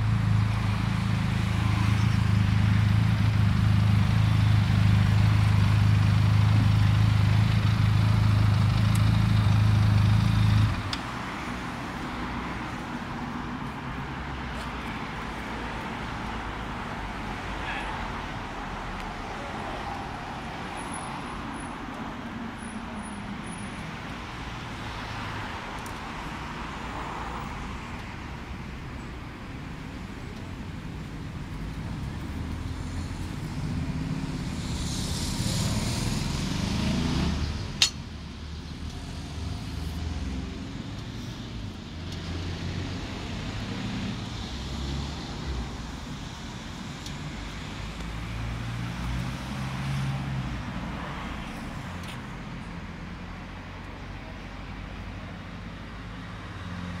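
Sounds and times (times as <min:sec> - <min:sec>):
faint street traffic: 0:00.0 - 0:57.0.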